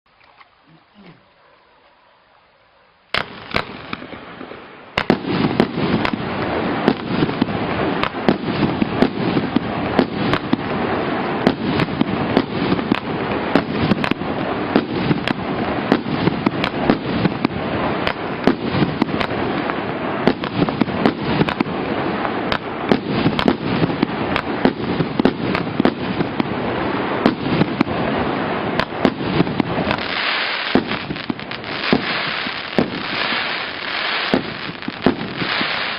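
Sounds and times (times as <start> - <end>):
fireworks bangs: 3.1 - 35.9.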